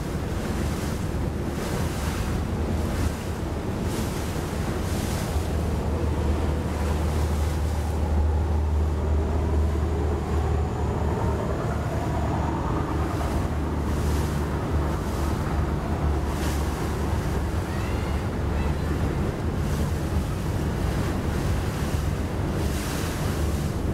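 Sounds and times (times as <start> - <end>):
boat engine drone: 0.0 - 23.9
water wash: 0.0 - 23.9
wind on microphone: 0.0 - 23.9.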